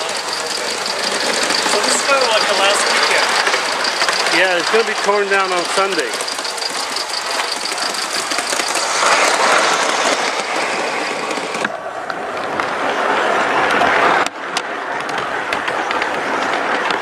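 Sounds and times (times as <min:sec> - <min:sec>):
model train wheels rumbling: 0:00.0 - 0:17.0.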